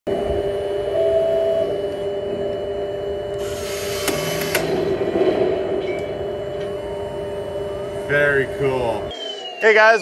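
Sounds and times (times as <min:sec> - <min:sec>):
electronic engine hum: 0:00.1 - 0:10.0
turret mechanical whir: 0:01.7 - 0:10.0.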